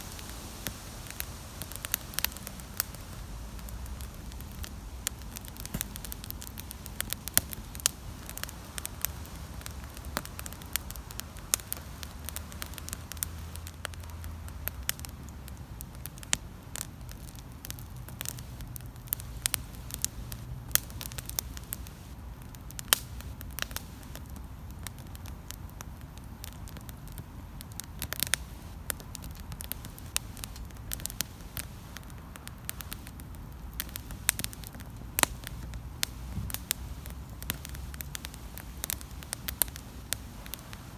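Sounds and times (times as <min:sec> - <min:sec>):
campfire crackling and popping: 0:00.0 - 0:40.9
low fire rumble: 0:00.0 - 0:40.9.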